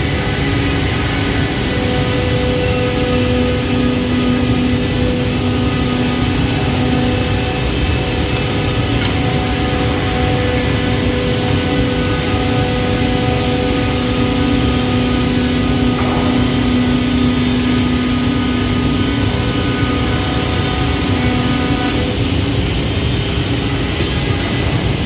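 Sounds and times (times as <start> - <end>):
scroll saw machine drone: 0.0 - 25.0.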